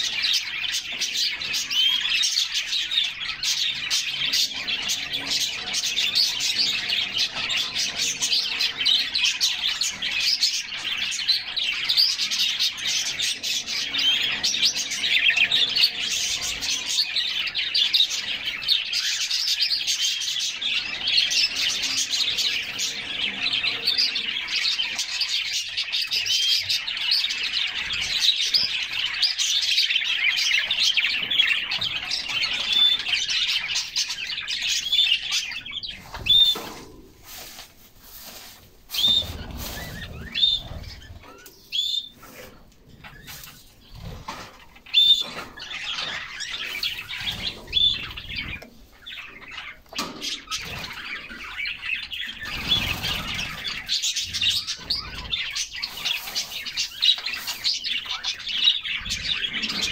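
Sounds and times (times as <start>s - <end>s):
canaries singing: 0.0s - 59.9s.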